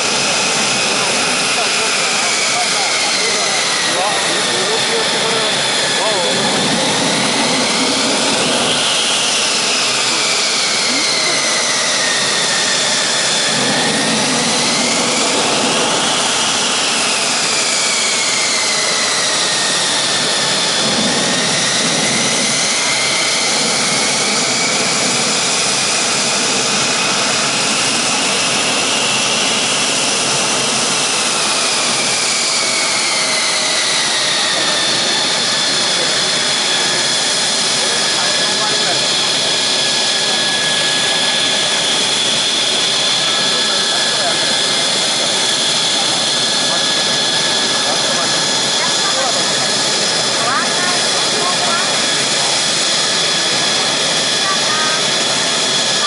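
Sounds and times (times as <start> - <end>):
jet engine running with high whine: 0.0 - 56.0.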